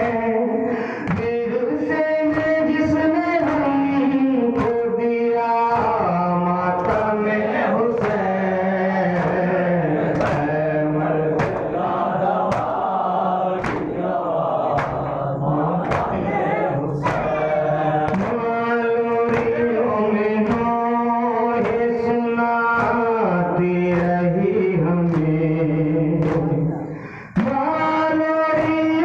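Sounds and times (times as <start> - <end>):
men chanting together: 0.0 - 29.0
rhythmic chest-beating slaps: 0.0 - 29.0.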